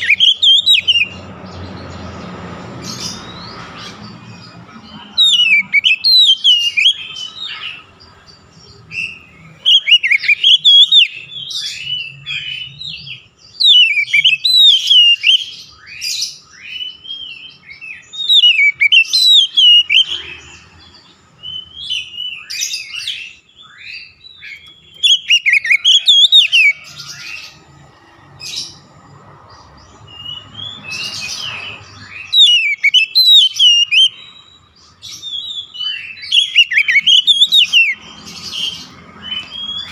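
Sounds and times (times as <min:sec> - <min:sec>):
songbird singing whistles: 0:00.0 - 0:01.3, 0:05.2 - 0:07.8, 0:08.6 - 0:27.6, 0:29.9 - 0:39.9.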